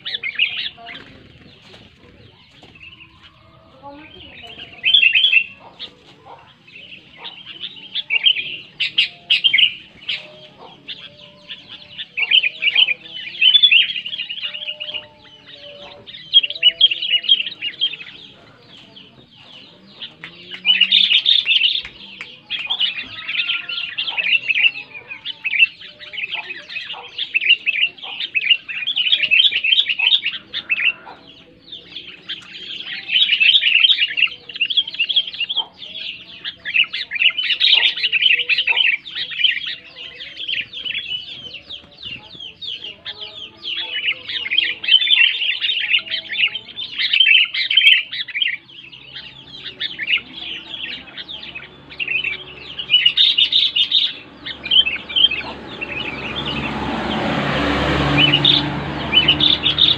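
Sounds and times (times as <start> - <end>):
bird singing bright chirps: 0.0 - 59.9.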